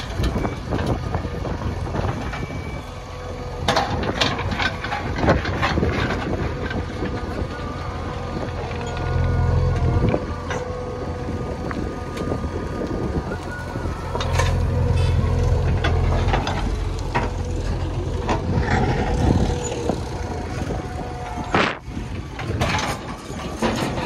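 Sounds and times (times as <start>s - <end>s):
diesel engine running: 0.0s - 24.0s
steady whine: 0.4s - 24.0s.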